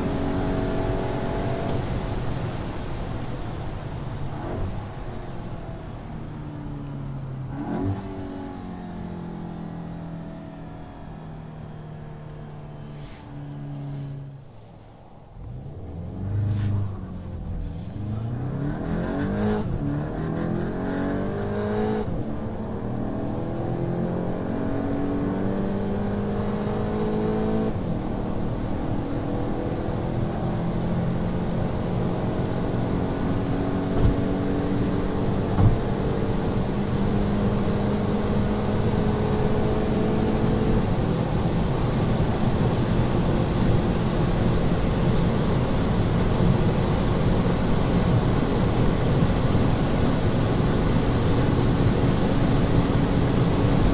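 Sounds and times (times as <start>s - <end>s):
car engine accelerating: 0.0s - 53.9s
wind and road noise: 0.0s - 53.9s.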